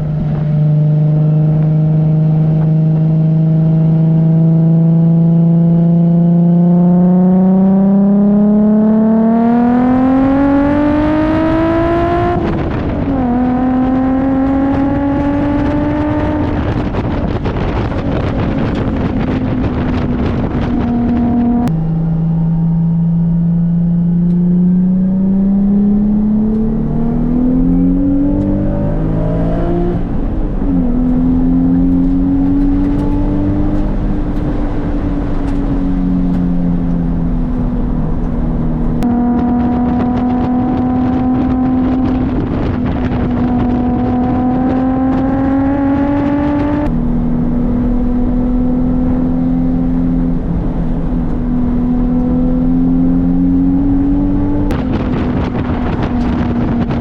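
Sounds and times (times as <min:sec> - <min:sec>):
car engine revving while driving: 0:00.0 - 0:57.0.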